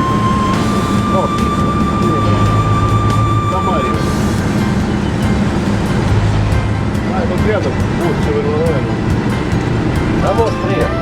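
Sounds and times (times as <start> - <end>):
moving vehicle engine and road: 0.0 - 11.0.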